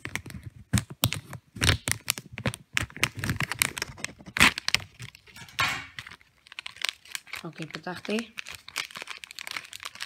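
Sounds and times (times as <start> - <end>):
package being torn open: 0.0 - 10.0.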